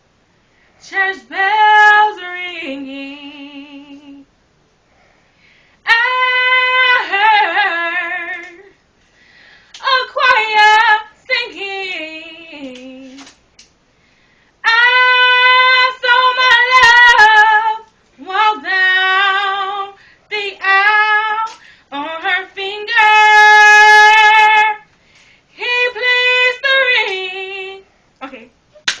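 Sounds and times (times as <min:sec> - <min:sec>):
woman singing unaccompanied: 0:00.8 - 0:04.3, 0:05.8 - 0:08.8, 0:09.8 - 0:13.4, 0:14.6 - 0:24.9, 0:25.5 - 0:28.5.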